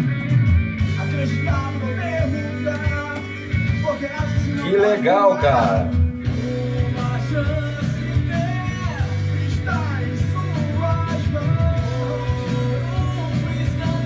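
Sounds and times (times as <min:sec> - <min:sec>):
rock song with vocals: 0:00.0 - 0:14.0.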